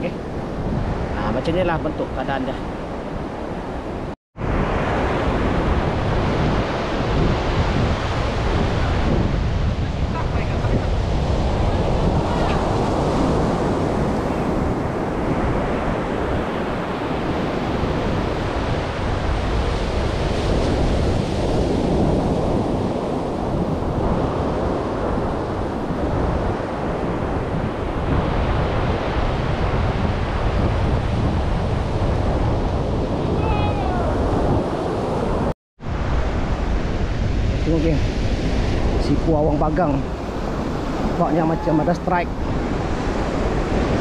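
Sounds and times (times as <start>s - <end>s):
ocean surf breaking on beach: 0.0s - 44.0s
wind buffeting microphone: 0.0s - 44.0s.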